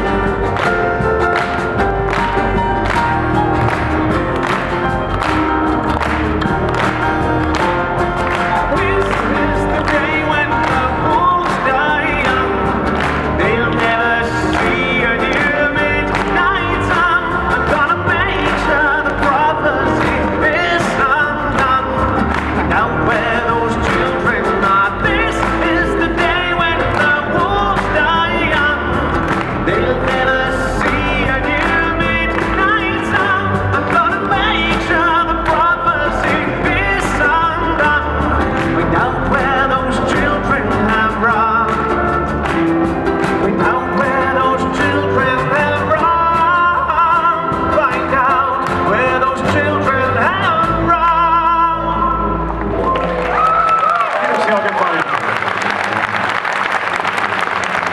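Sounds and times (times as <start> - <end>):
acoustic rock band playing: 0.0 - 54.0, 56.0 - 57.9.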